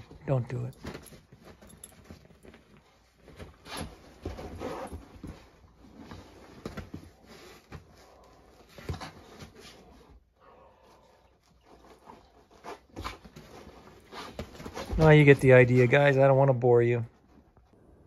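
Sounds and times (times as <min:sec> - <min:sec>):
dogs scuffling and thumping: 0:00.0 - 0:10.2, 0:11.4 - 0:16.4.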